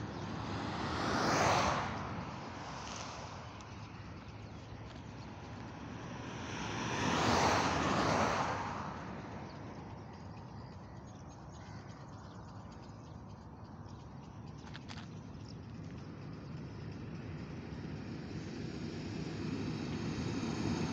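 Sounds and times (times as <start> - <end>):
vehicle passing at speed: 0.0 - 11.4, 15.5 - 20.9
distant traffic hum: 0.0 - 20.9.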